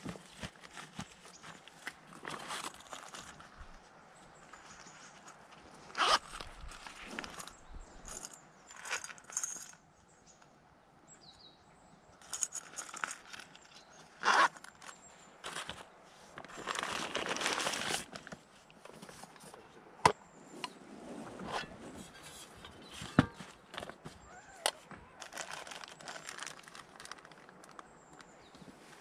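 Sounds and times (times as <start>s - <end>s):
crinkling and rustling: 0.0s - 9.8s, 12.2s - 29.0s.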